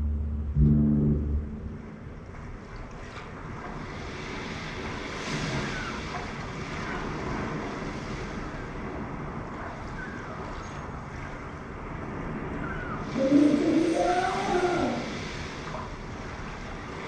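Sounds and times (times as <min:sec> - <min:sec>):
wind: 0:00.0 - 0:17.0
waves washing: 0:00.4 - 0:17.0.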